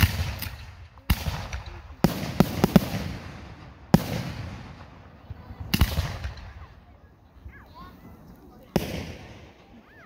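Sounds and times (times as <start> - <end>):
fireworks bangs: 0.0 - 6.9, 8.6 - 10.0
rolling echo: 0.0 - 8.0, 8.6 - 10.0
fireworks crackling: 0.0 - 9.9.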